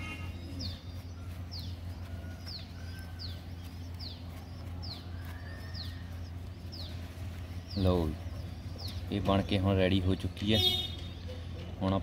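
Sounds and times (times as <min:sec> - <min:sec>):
bird chirping: 0:00.0 - 0:12.0
steady low hum: 0:00.0 - 0:12.0.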